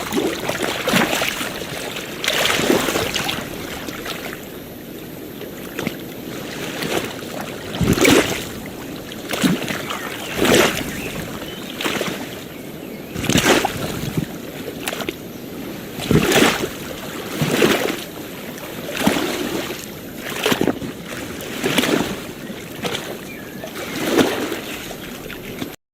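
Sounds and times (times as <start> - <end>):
surf hiss: 0.0 - 25.7
small waves lapping: 0.0 - 25.8.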